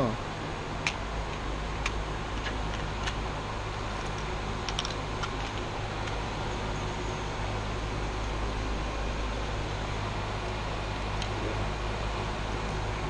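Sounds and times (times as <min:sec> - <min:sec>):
ventilation fans humming: 0:00.0 - 0:13.0.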